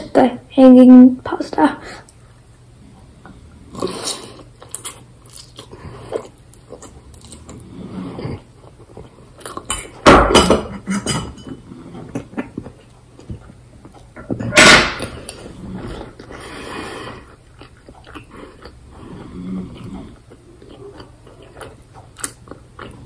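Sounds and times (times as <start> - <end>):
chewing: 2.0 - 10.0, 10.9 - 14.3, 15.2 - 23.0.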